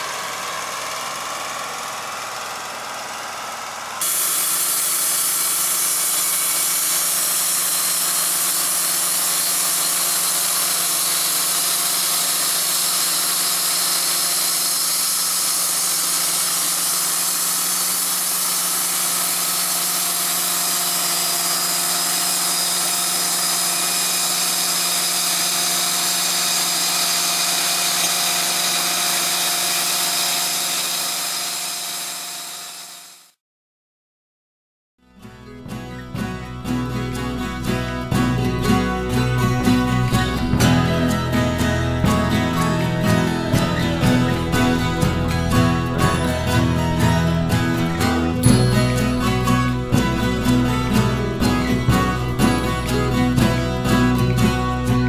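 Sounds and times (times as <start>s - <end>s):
band sawmill running: 0.0s - 33.4s, 36.1s - 55.0s.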